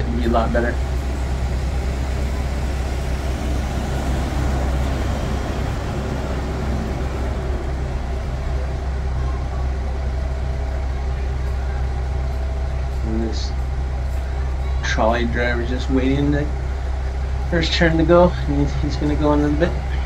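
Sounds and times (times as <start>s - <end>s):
minibus driving past: 0.0s - 20.0s
traffic engine drone: 0.0s - 20.0s.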